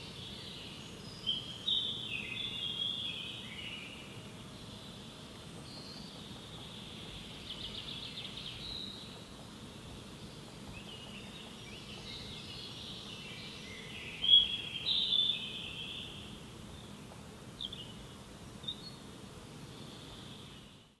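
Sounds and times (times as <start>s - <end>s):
high-pitched hiss: 0.0s - 21.0s
songbirds singing and chirping: 0.0s - 21.0s.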